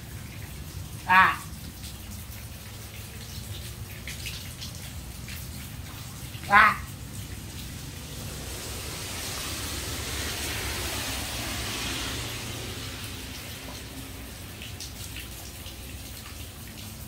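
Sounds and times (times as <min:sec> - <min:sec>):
running water hiss: 0:00.0 - 0:17.0.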